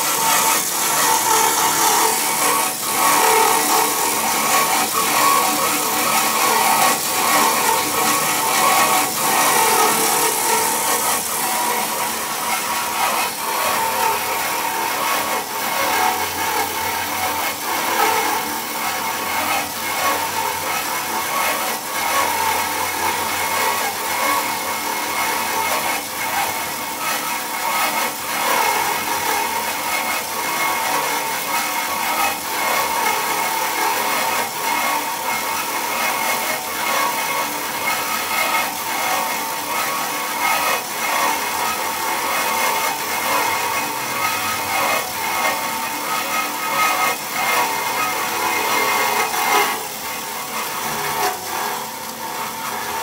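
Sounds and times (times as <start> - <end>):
band saw running: 0.0 - 53.0.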